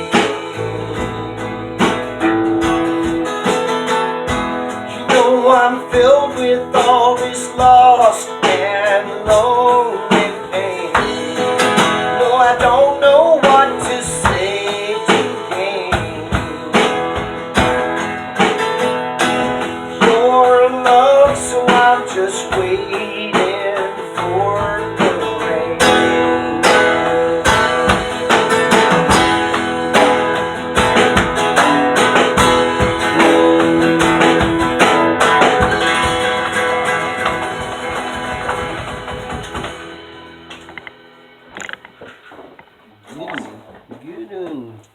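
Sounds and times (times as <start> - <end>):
folk-rock band playing: 0.0 - 43.8.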